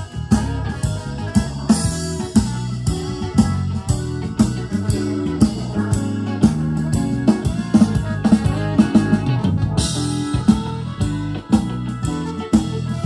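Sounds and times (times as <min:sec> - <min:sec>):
bass notes: 0:00.0 - 0:13.0
drum kit beat: 0:00.0 - 0:13.0
electric guitar: 0:00.0 - 0:13.0.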